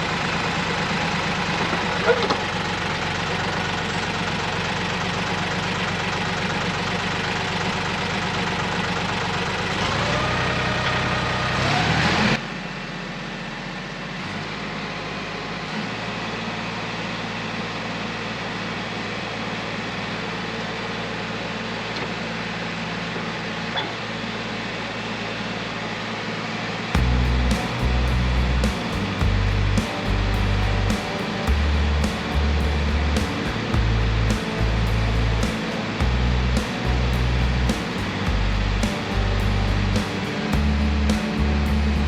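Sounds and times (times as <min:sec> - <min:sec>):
tractor diesel engine idling and revving: 0:00.0 - 0:42.0.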